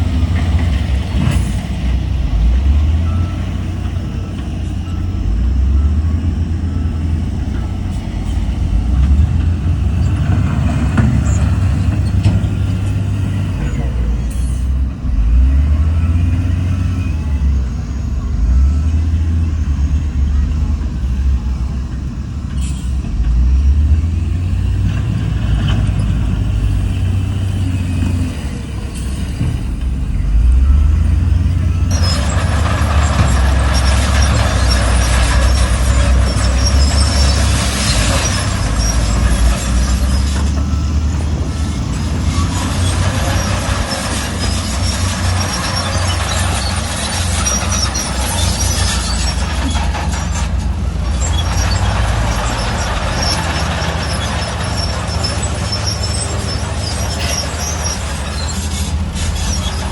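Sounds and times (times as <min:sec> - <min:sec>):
diesel machinery engine rumble: 0:00.0 - 0:59.9.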